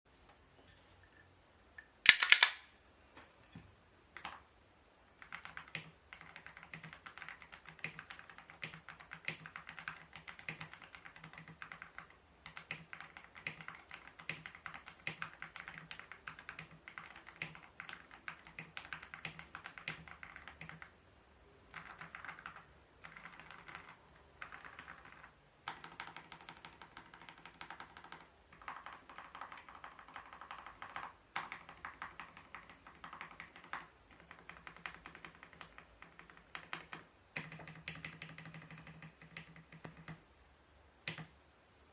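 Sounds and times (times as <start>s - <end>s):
mechanical keyboard typing: 2.1s - 2.6s, 4.2s - 4.4s, 5.2s - 20.9s, 21.7s - 40.2s, 41.0s - 41.3s.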